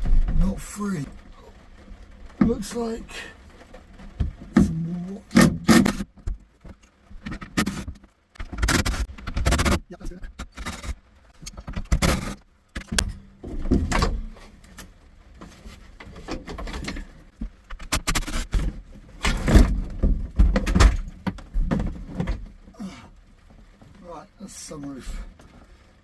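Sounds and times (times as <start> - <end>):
knocks rattles and scrapes: 0.0 - 24.0.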